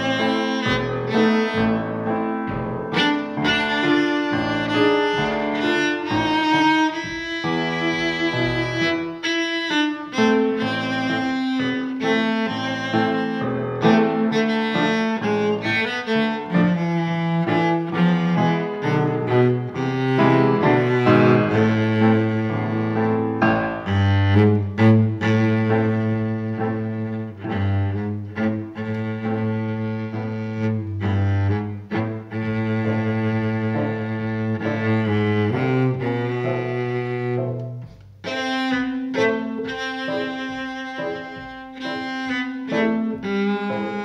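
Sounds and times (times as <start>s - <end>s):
cello and bowed strings: 0.0s - 44.0s
piano: 0.0s - 44.0s.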